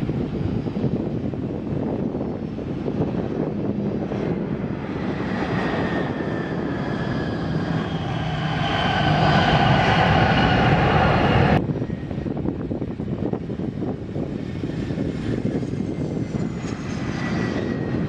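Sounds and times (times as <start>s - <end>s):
airliner engines passing: 0.0s - 18.0s.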